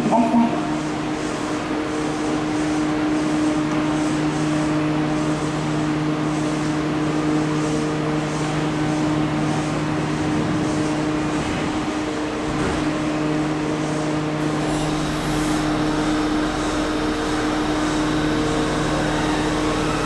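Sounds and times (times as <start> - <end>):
subway train equipment hum: 0.0 - 20.0.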